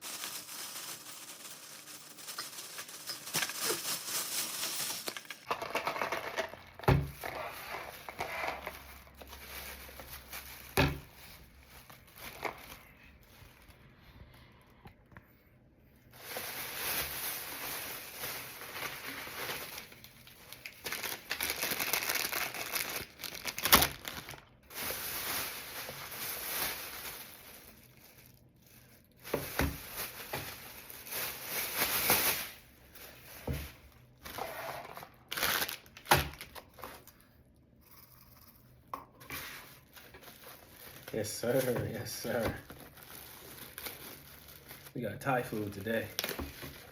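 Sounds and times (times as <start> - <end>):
packaging crinkling and rustling: 0.0 - 14.5, 16.1 - 37.3, 39.2 - 46.9.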